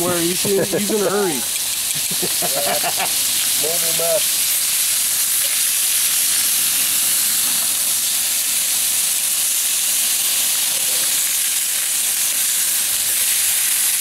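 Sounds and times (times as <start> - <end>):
steaks sizzling on a grill: 0.0 - 14.0.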